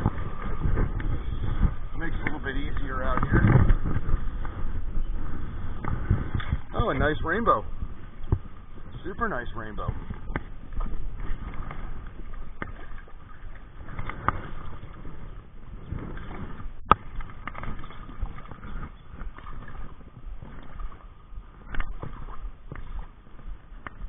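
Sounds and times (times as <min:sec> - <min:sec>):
water splashing: 0:00.0 - 0:24.0.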